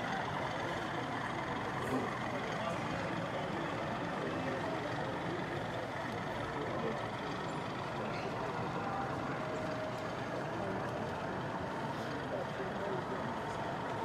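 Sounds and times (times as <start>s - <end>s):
murmur of crowd and machinery: 0.0s - 14.0s.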